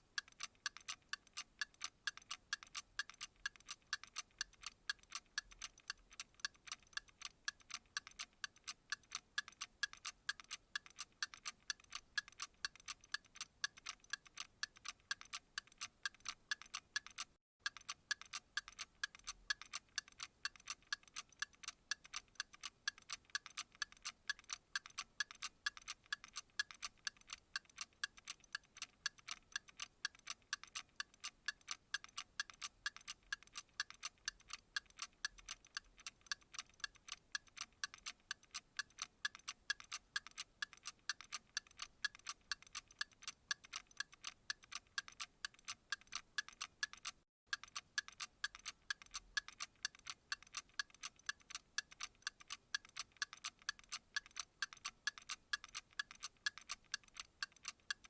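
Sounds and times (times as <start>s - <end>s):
clock ticking rapidly: 0.0s - 58.0s.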